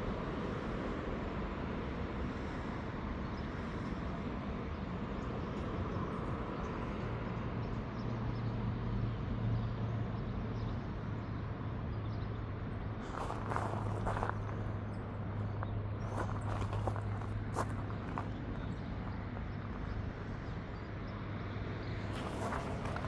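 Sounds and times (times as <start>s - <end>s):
distant traffic hum: 0.1s - 23.0s.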